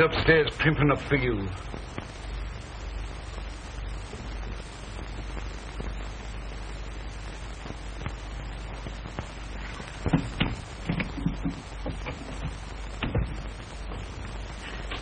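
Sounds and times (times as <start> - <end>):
faint crackles: 0.0 - 15.0
film soundtrack hiss and hum: 0.0 - 15.0.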